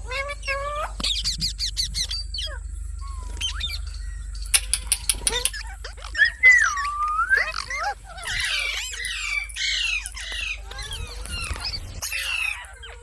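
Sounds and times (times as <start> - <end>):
parakeet squawks and chatter: 0.0 - 3.8, 4.7 - 13.0.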